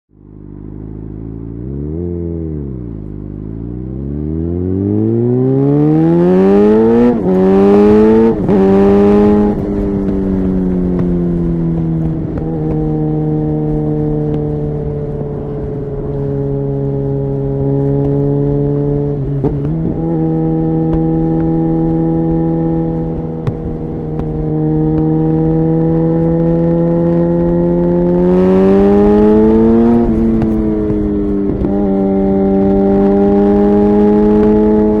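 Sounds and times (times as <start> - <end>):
motorcycle engine accelerating: 0.1 - 35.0.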